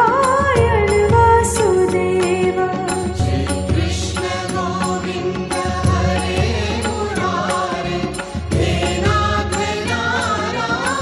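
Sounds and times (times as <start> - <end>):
devotional music with steady beat: 0.0 - 11.0.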